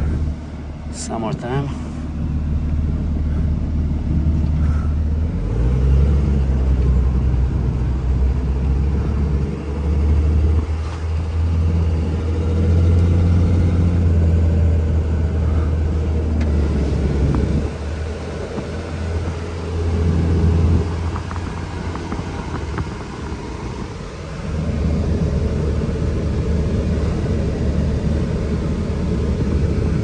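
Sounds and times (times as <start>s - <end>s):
diesel truck engine drone: 0.0s - 30.0s
road noise: 0.0s - 30.0s.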